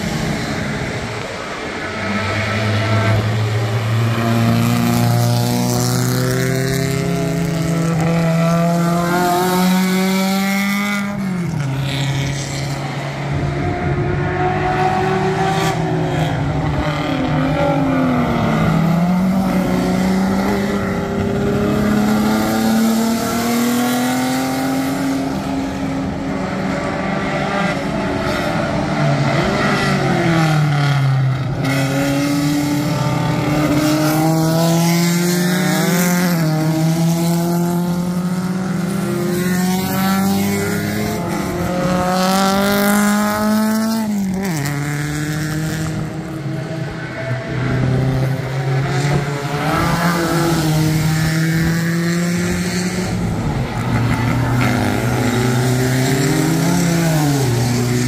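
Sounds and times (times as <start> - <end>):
racing car engines: 0.0 - 58.0.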